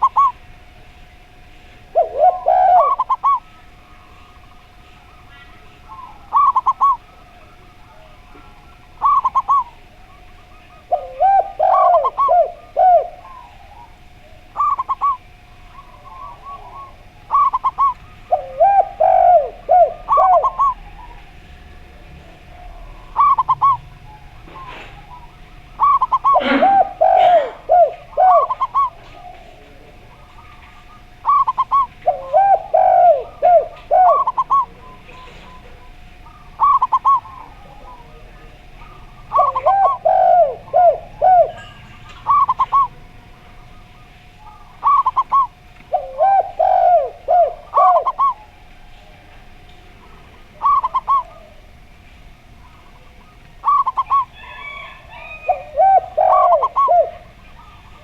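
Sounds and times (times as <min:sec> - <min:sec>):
doves cooing: 0:00.0 - 0:58.0.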